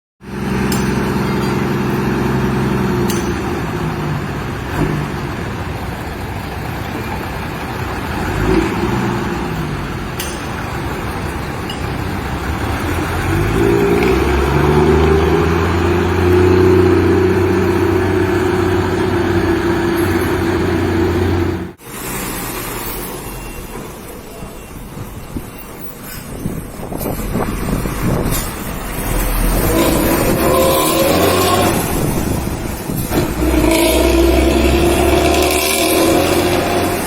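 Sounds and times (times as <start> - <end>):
bus engine through loud exhaust: 0.2 - 37.0.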